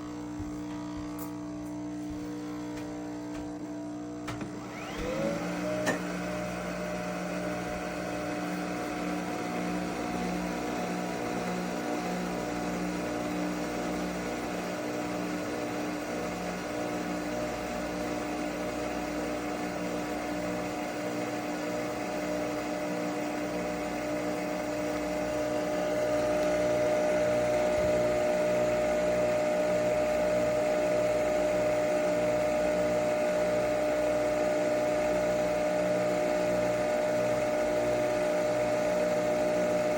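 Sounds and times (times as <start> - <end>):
coffee machine brewing: 0.2 - 39.9.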